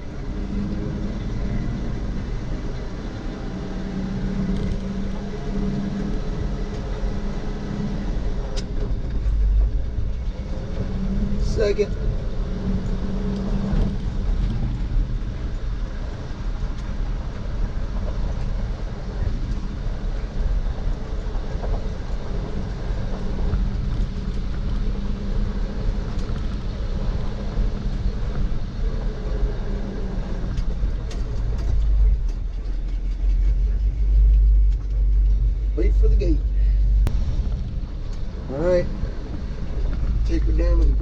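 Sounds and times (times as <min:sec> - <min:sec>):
truck engine rumble: 0:00.0 - 0:41.0.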